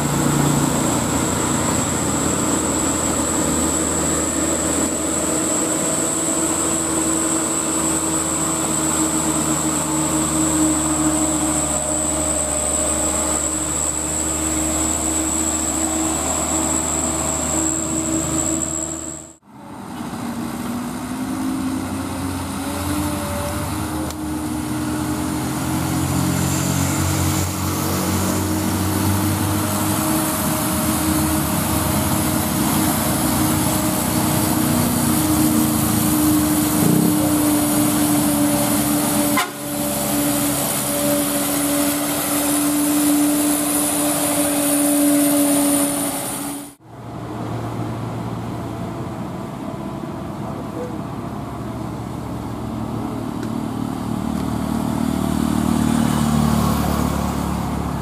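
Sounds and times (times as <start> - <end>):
diesel truck engine droning: 0.0 - 58.0
second truck engine: 0.0 - 58.0.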